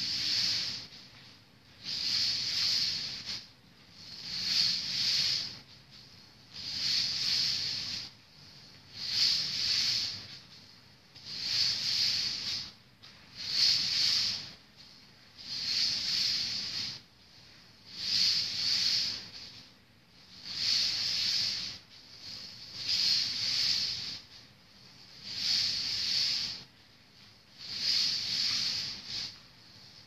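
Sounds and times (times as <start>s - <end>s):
hula hoop swishing: 0.0s - 30.0s.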